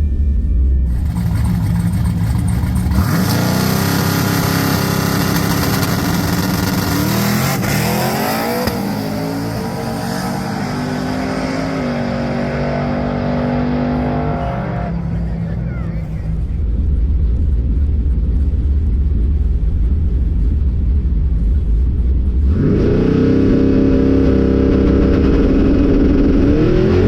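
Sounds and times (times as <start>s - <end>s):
drag car engines revving: 0.9s - 20.5s, 21.5s - 27.0s.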